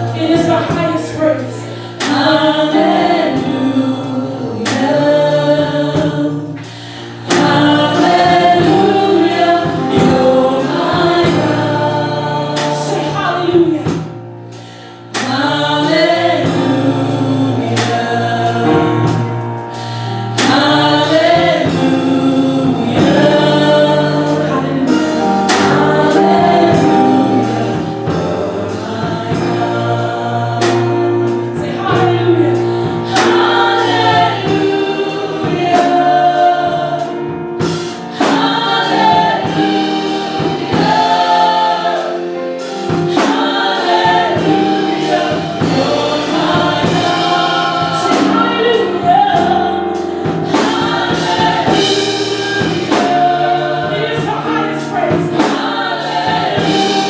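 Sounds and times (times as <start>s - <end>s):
gospel choir singing: 0.0s - 57.0s
live band: 0.0s - 57.0s.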